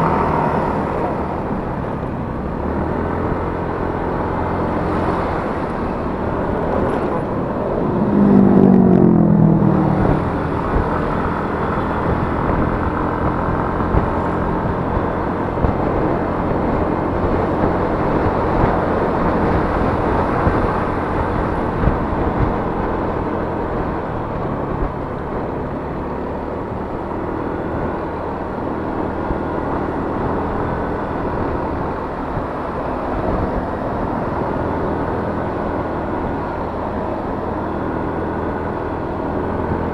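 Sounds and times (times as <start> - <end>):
road noise: 0.0 - 39.9
scooter engine running: 0.0 - 39.9.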